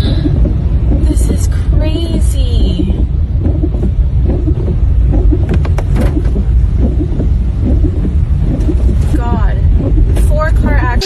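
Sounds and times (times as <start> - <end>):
tyre and road rumble in rain: 0.0 - 11.0.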